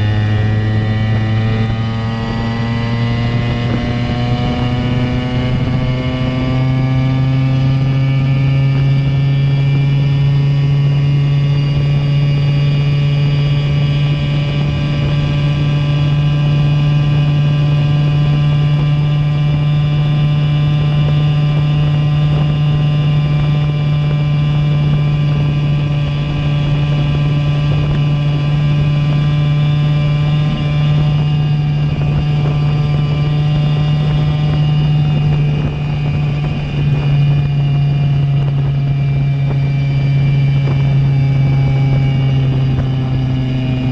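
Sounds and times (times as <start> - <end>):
two-stroke moped engine: 0.0 - 43.9.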